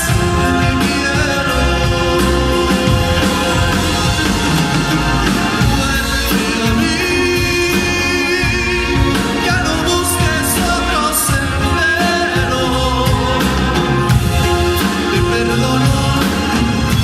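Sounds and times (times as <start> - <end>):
band playing a steady beat: 0.0 - 17.0
person singing: 0.0 - 17.0.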